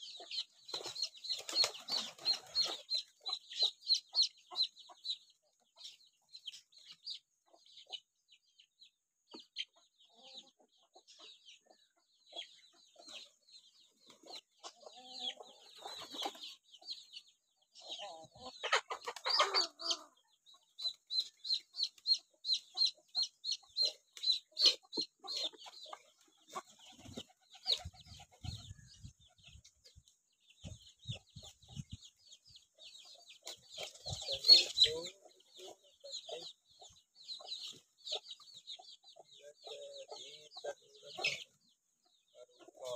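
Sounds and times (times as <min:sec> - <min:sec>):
chicks peeping: 0:00.0 - 0:42.9
hens clucking: 0:00.0 - 0:42.9.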